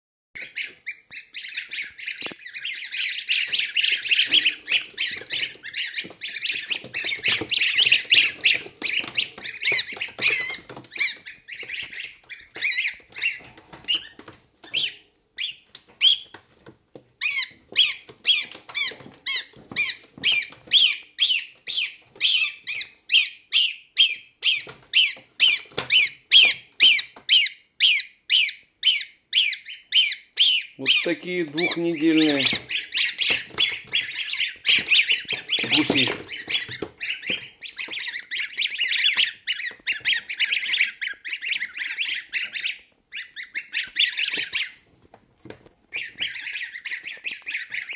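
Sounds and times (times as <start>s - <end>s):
goslings peeping: 0.4s - 47.9s.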